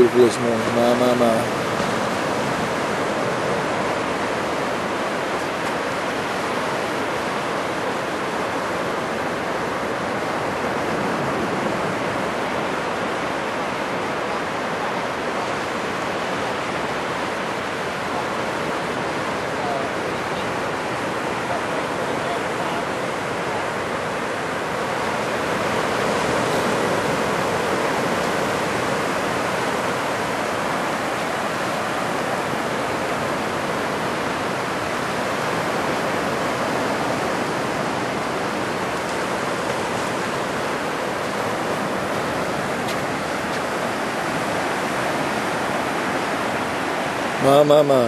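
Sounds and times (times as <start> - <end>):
ocean surf on beach: 0.0 - 48.0.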